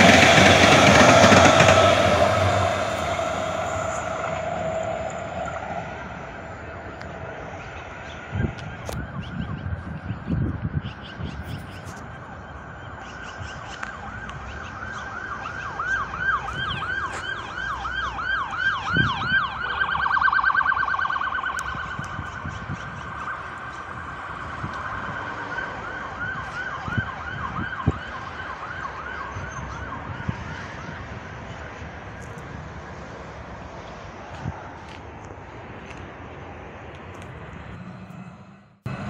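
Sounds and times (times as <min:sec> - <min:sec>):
emergency vehicle siren: 0:00.0 - 0:07.6, 0:08.2 - 0:10.4, 0:11.8 - 0:33.1, 0:37.2 - 0:39.0.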